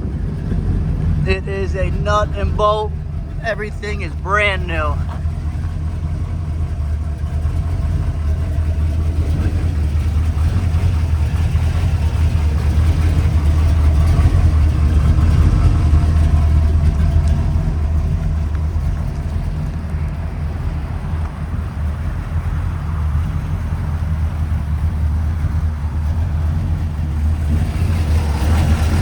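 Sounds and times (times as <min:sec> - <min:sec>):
vee-eight engine idling: 0:00.0 - 0:29.0.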